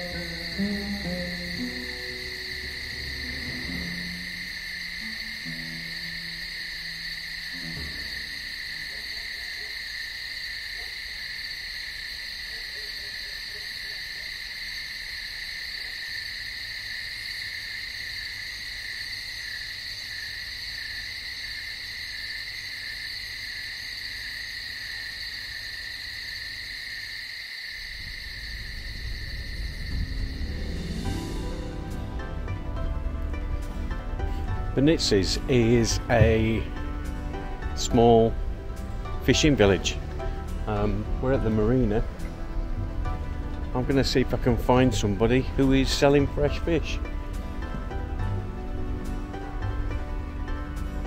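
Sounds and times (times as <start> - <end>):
cicadas singing: 0.0 - 51.0.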